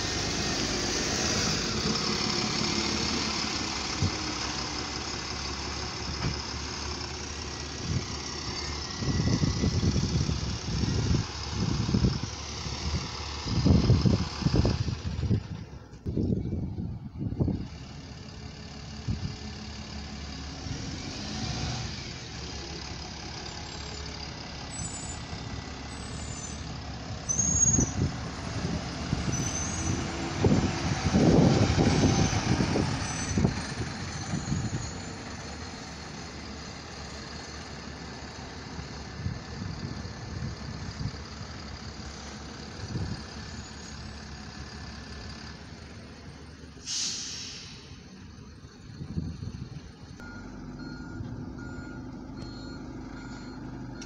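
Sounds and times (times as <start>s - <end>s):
bus driving by: 0.0s - 54.0s
double-decker bus pulling away: 0.0s - 54.0s.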